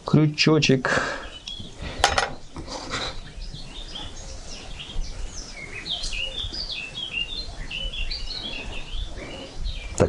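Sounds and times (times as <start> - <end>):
small birds chirping: 0.1 - 10.0.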